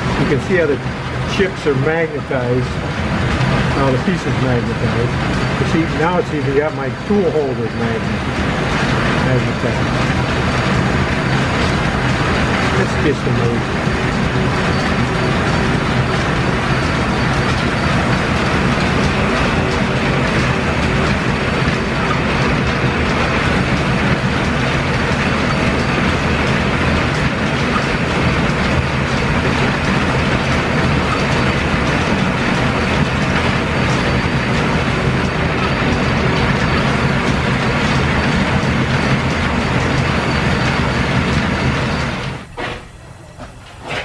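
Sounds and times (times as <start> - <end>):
lathe cutting steel: 0.0 - 42.6.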